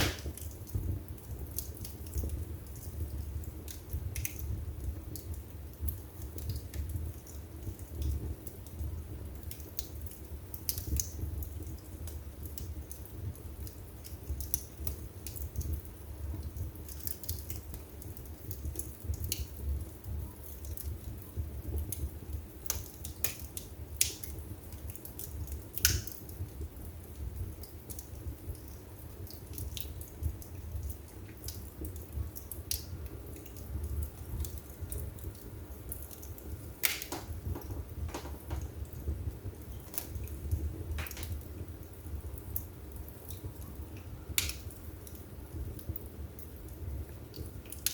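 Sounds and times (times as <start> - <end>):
low rumble of flames: 0.0 - 47.9
wood fire crackling and popping: 0.0 - 47.9.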